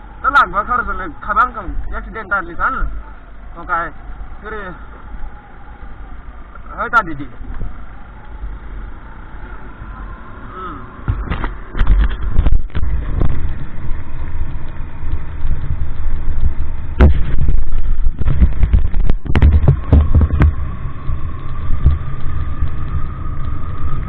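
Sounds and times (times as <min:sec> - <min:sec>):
vehicle on rough road: 0:00.0 - 0:24.0.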